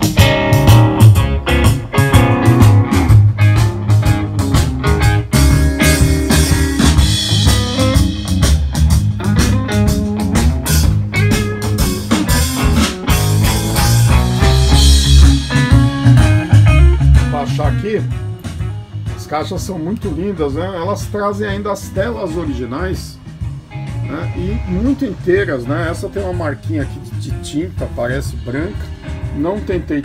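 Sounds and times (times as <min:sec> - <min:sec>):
rock-blues music with guitar: 0:00.0 - 0:30.0.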